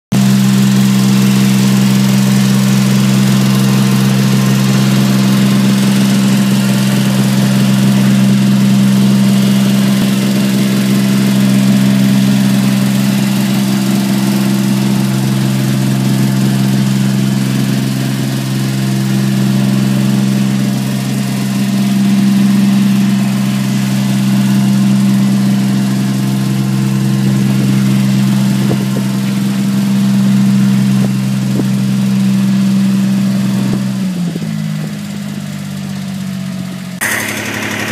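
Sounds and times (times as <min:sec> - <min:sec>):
tractor engine running: 0:00.1 - 0:37.9.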